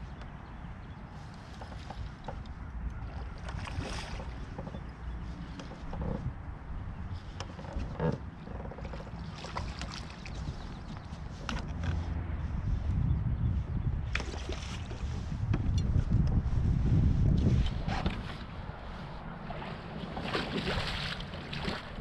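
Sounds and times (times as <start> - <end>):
boat engine low rumble: 0.0 - 22.0.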